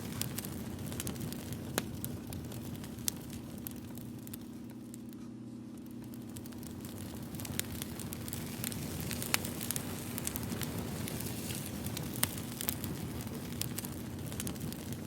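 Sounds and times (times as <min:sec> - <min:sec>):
campfire wood crackling and popping: 0:00.0 - 0:15.0.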